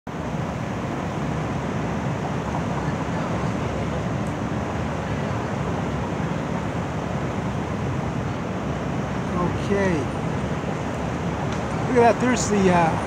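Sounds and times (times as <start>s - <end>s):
city street noise: 0.1s - 13.0s.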